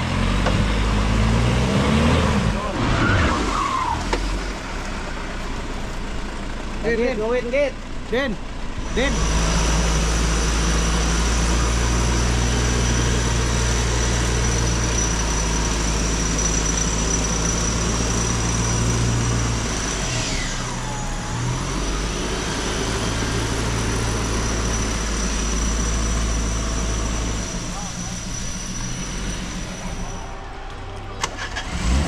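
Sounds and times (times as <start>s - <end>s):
off-road vehicle engine running: 0.0s - 32.0s.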